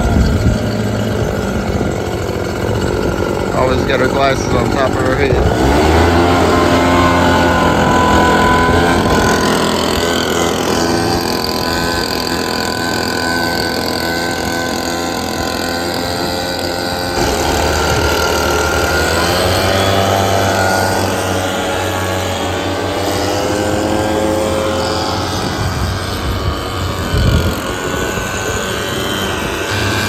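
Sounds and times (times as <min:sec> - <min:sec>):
small lawn equipment engine running: 0:00.0 - 0:30.0.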